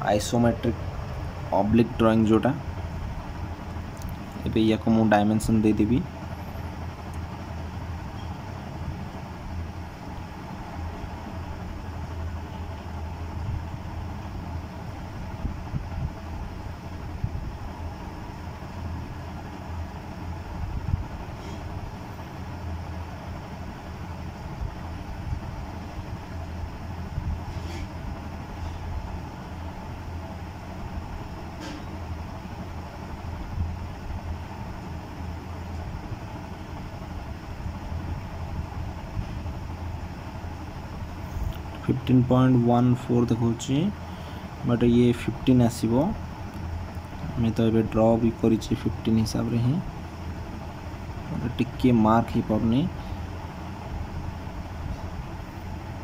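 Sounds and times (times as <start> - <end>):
low background rumble: 0.0 - 56.0
steady low hum: 0.0 - 56.0.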